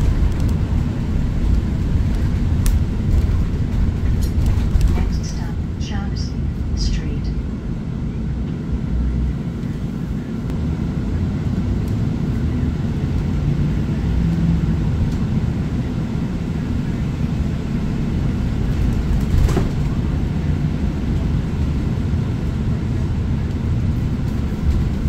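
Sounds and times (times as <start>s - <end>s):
bus engine rumble from inside: 0.0s - 25.0s.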